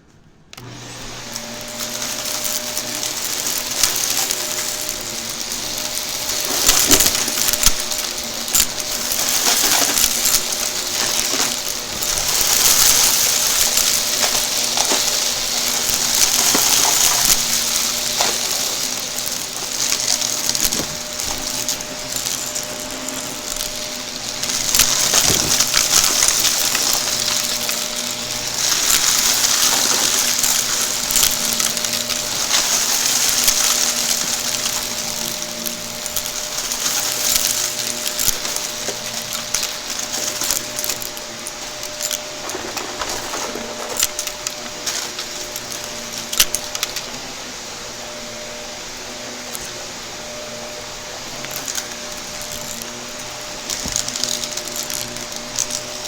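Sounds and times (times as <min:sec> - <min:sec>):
vacuum cleaner running: 0:00.0 - 0:56.0
debris clicking being sucked up: 0:00.6 - 0:47.3, 0:48.1 - 0:56.0.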